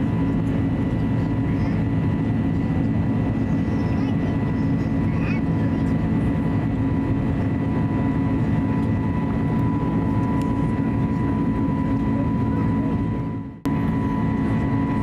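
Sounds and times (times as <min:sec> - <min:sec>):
airplane cabin engine rumble: 0:00.0 - 0:15.0
thin steady whine: 0:00.0 - 0:15.0.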